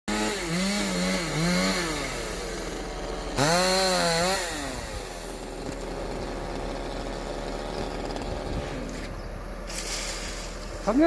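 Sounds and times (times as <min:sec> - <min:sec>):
chainsaw cutting wood: 0:00.1 - 0:09.2.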